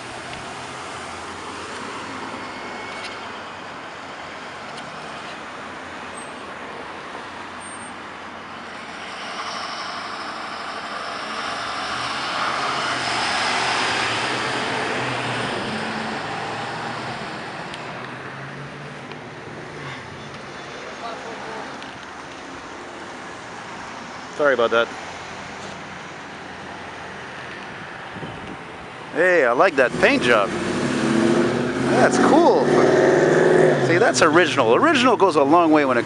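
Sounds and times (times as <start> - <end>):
bus driving past: 0.0 - 35.4
road traffic going by: 0.0 - 36.0.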